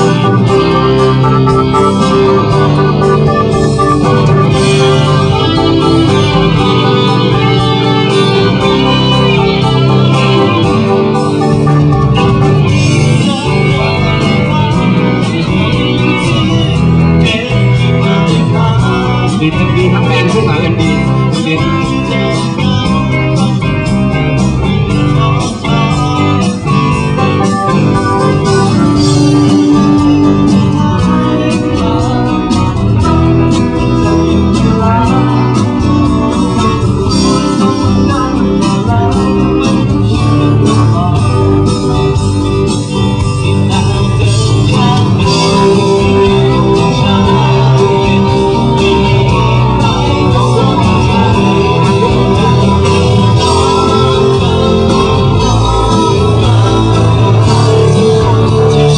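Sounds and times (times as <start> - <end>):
live band playing: 0.0 - 58.9
person singing: 0.0 - 58.9
steady drum beat: 0.0 - 58.9.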